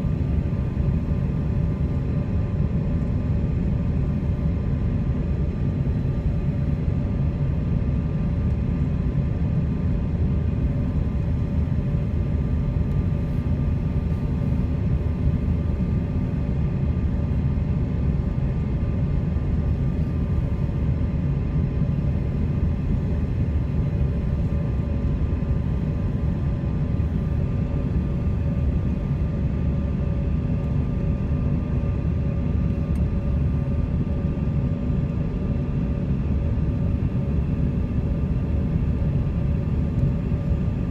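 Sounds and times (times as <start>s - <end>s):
airliner cabin engine rumble: 0.0s - 40.9s
faint steady hum: 0.0s - 40.9s.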